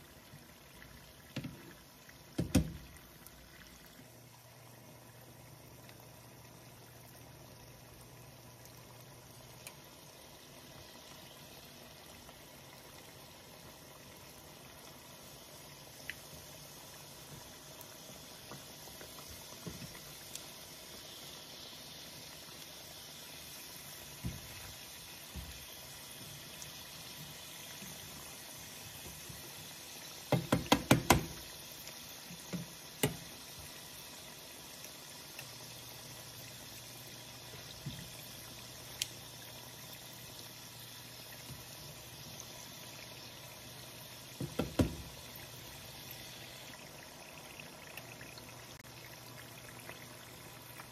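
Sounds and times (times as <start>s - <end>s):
food deep-frying in oil: 0.0s - 50.9s.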